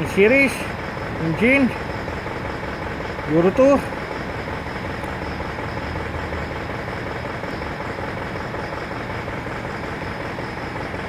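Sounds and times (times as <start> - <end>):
diesel truck engine idling: 0.0 - 11.0
engine knocking: 0.0 - 11.0.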